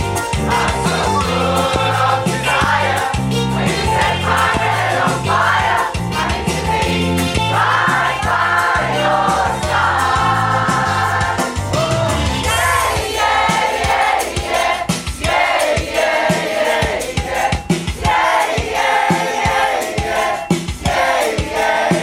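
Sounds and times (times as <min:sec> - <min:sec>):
instrumental backing with bass and beat: 0:00.0 - 0:22.0
pop choir singing: 0:00.3 - 0:22.0.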